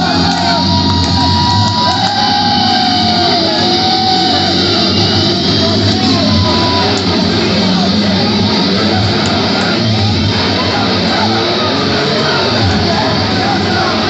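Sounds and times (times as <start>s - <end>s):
crowd shouting: 0.0s - 14.0s
metal music with electric guitar: 0.0s - 14.0s.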